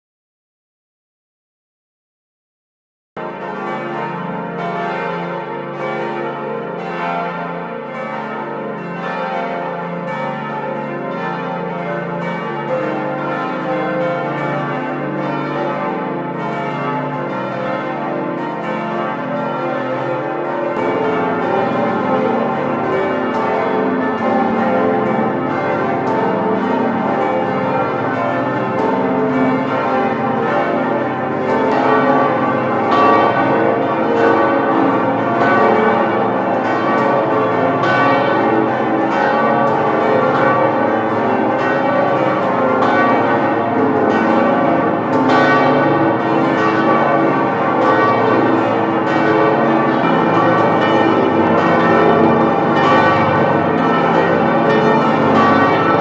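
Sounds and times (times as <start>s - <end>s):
church bells pealing: 3.2s - 56.0s.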